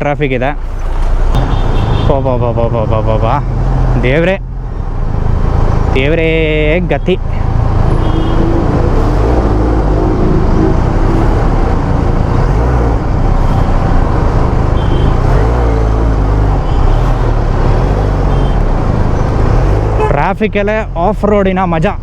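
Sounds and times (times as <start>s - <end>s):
surrounding traffic noise: 0.0s - 22.0s.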